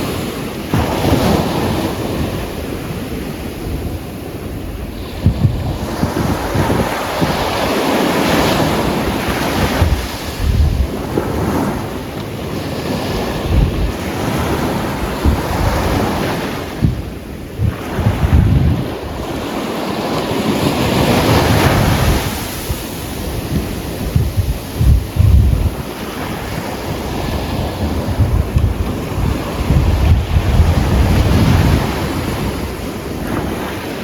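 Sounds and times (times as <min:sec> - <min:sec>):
waves breaking on a beach: 0:00.0 - 0:34.0
wind buffeting microphone: 0:00.0 - 0:34.0.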